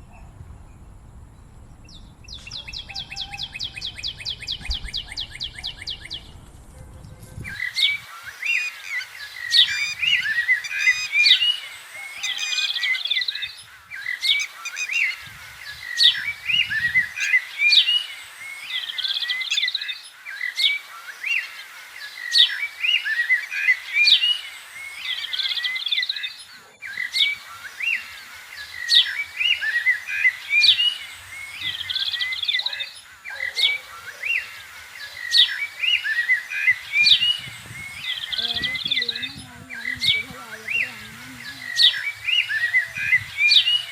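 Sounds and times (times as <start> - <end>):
birds chirping and singing: 0.0 - 43.9.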